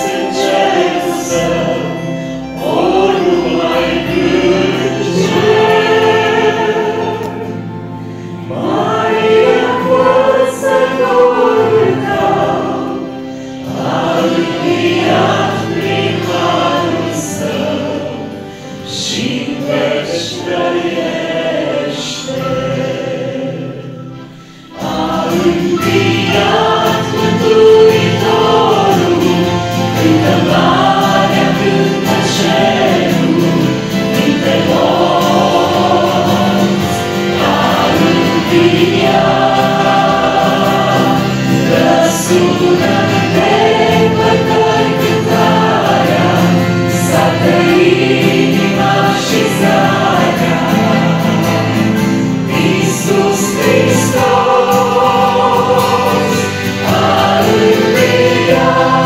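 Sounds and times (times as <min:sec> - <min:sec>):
acoustic guitar: 0:00.0 - 0:59.0
group singing a hymn: 0:00.0 - 0:59.0.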